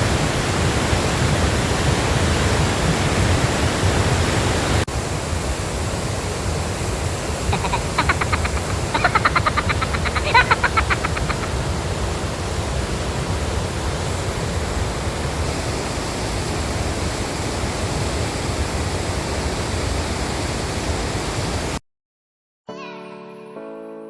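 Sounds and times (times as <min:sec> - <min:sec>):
waterfall rushing: 0:00.0 - 0:21.8.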